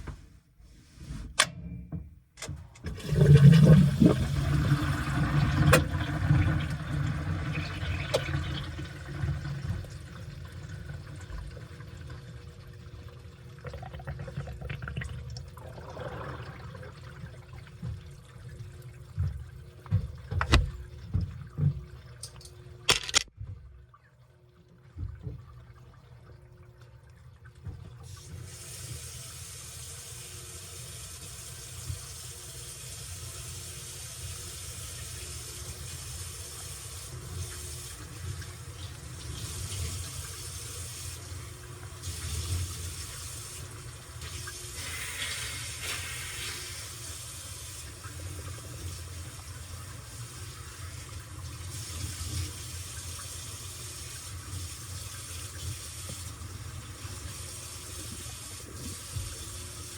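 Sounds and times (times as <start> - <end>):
washing machine humming: 0.0 - 59.9
water filling washing machine drum: 2.5 - 22.2, 27.6 - 59.9.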